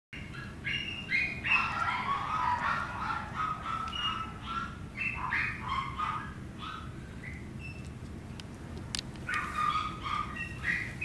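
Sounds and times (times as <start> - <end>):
puppy squeaking and whining: 0.2 - 8.0, 9.2 - 11.0.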